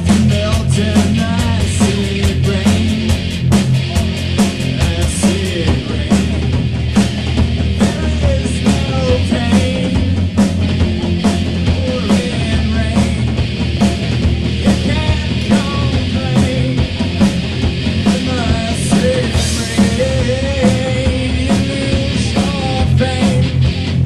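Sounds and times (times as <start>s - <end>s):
drum hits in steady beat: 0.0s - 24.0s
rock band playing live: 0.0s - 24.0s.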